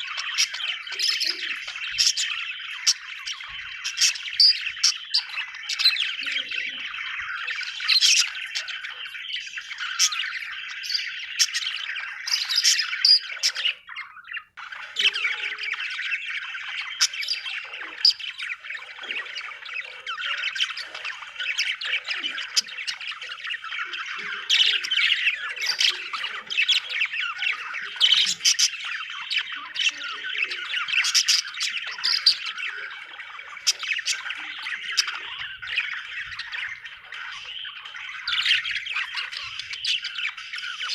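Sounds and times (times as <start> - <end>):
bird chirps and squawks: 0.0 - 40.9
budgerigars chattering and warbling: 0.0 - 40.9.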